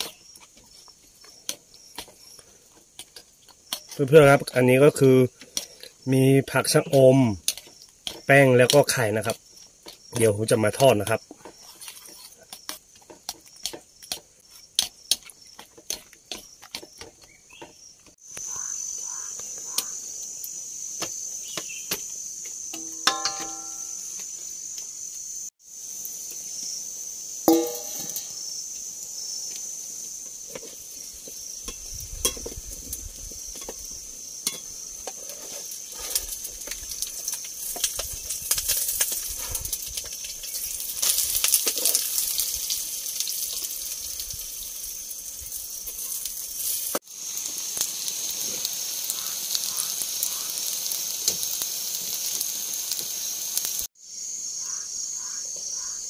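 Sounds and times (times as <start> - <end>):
batter frying in oil: 0.0 - 54.0
crickets trilling: 0.0 - 56.0.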